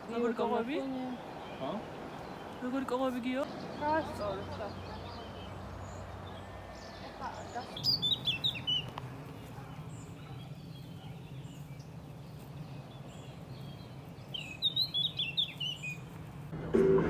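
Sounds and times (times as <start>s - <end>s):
songbird chirping: 0.0s - 16.5s.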